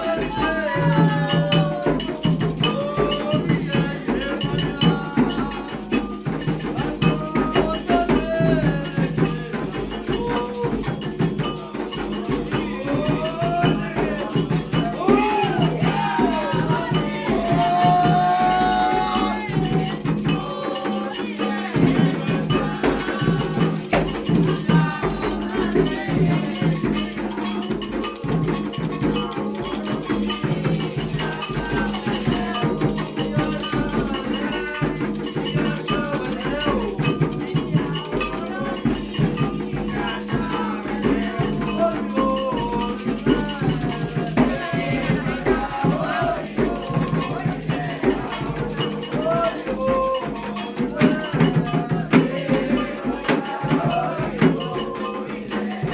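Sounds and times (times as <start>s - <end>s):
clanging bell pattern: 0.0s - 55.9s
hand drums beating: 0.0s - 55.9s
voices singing: 0.0s - 55.9s.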